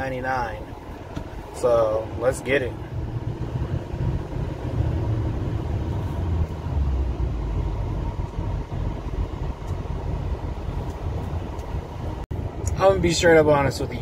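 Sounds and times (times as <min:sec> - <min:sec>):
engine and road rumble in cab: 0:00.0 - 0:14.0.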